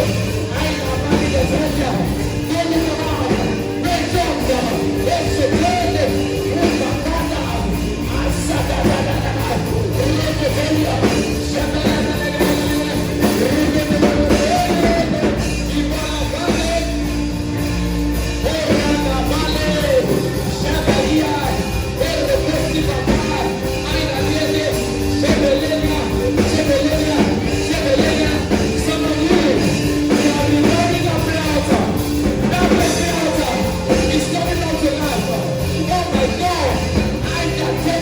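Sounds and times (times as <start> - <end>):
voices singing: 0.0 - 38.0.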